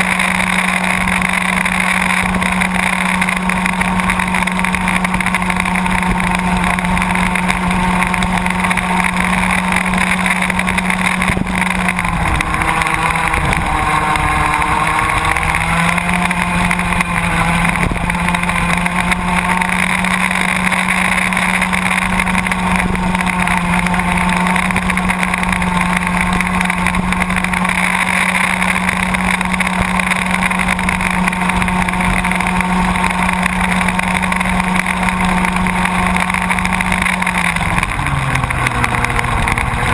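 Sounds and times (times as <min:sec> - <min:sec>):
two-stroke kart engine: 0:00.0 - 0:39.9.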